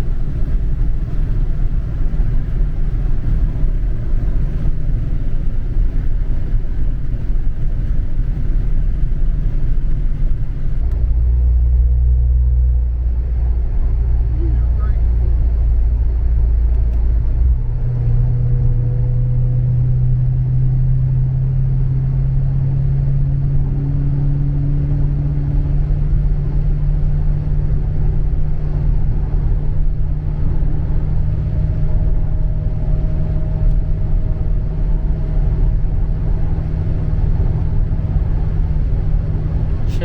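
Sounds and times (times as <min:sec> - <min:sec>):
car engine droning: 0:00.0 - 0:40.0.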